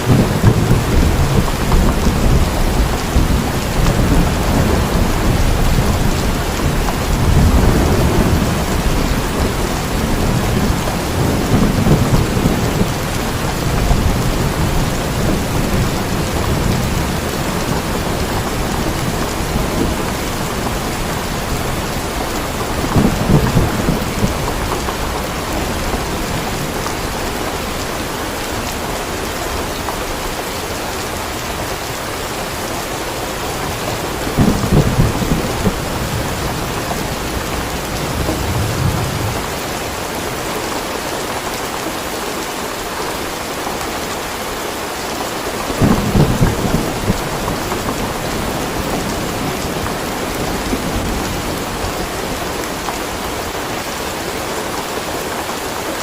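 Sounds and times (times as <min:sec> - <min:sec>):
thunder rumbling: 0:00.0 - 0:41.6, 0:45.5 - 0:54.5
steady rain: 0:00.0 - 0:56.0.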